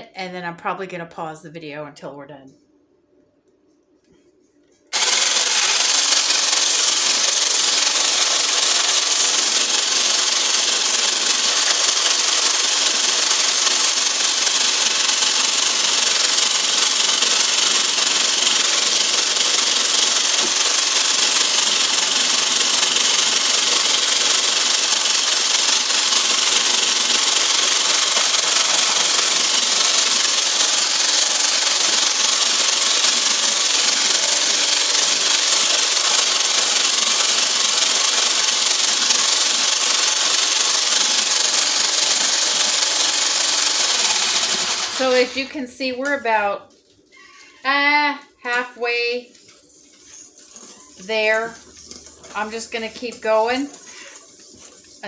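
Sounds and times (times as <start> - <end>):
stick blender whisking: 4.9 - 45.7, 49.3 - 55.0.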